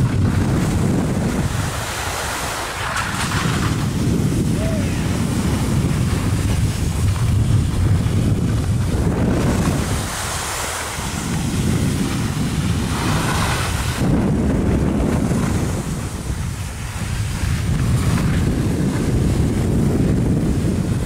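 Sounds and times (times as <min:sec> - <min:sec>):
skis sliding through slushy snow: 0:00.0 - 0:21.0
wind buffeting microphone: 0:00.0 - 0:21.0.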